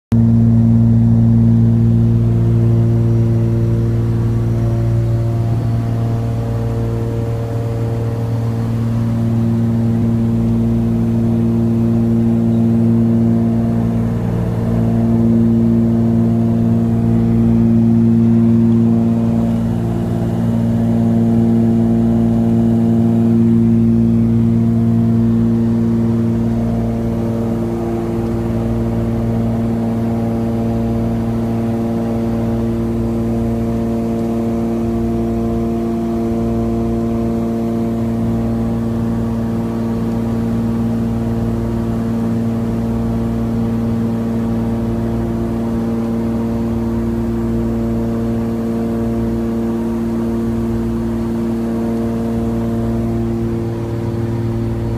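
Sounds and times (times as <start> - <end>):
aircraft engines droning: 0.1 - 54.9.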